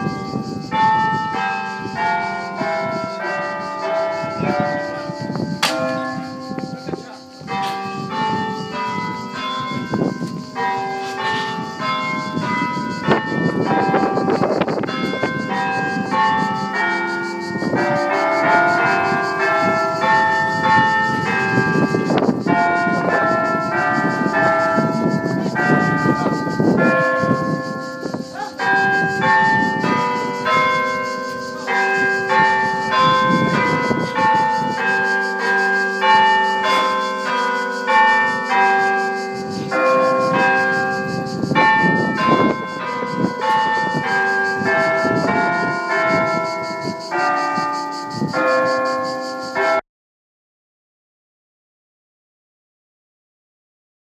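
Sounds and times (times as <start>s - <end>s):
church bells ringing: 0.0s - 49.8s.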